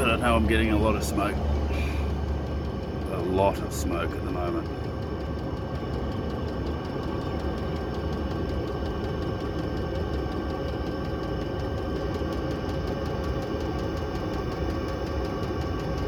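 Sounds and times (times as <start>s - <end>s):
air heater fan and burner hum: 0.0s - 16.0s
faint rapid ticking: 0.0s - 16.0s
whining tones: 0.0s - 16.0s.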